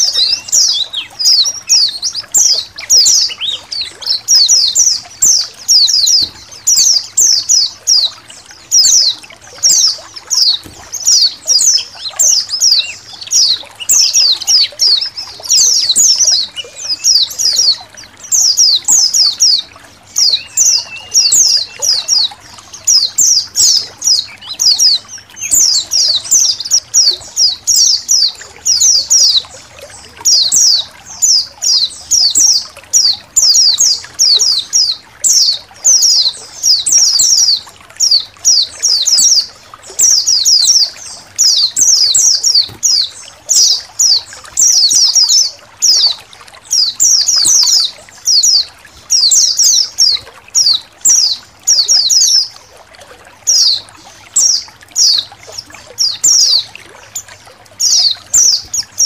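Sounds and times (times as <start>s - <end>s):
birds chirping: 0.0s - 59.0s
water trickling: 0.0s - 59.0s.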